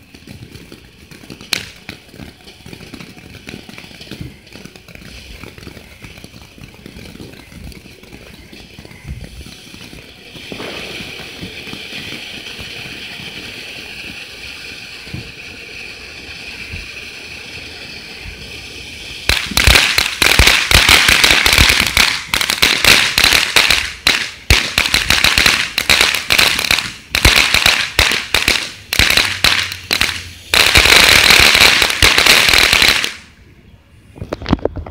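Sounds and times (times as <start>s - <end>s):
firework rapid crackling: 0.0s - 33.5s
firework fountain hissing: 0.0s - 34.9s.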